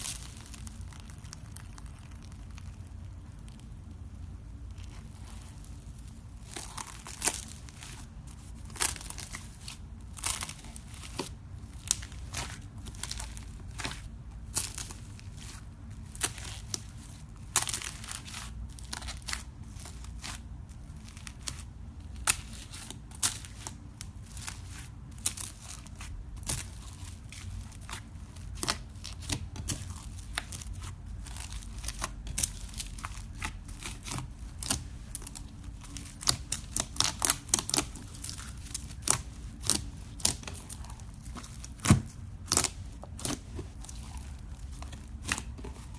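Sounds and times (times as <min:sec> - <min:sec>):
low steady hum: 0:00.0 - 0:45.9
slime popping and crackling: 0:00.0 - 0:45.9.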